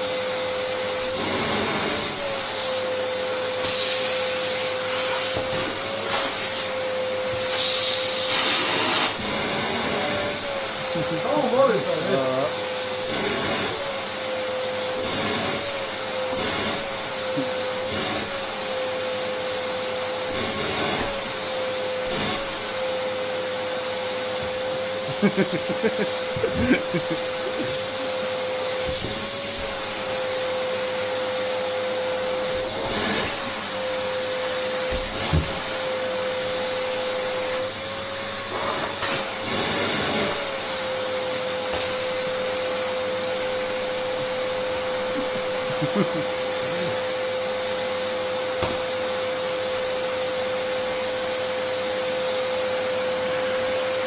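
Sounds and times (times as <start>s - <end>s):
vacuum cleaner motor whine: 0.0s - 54.0s.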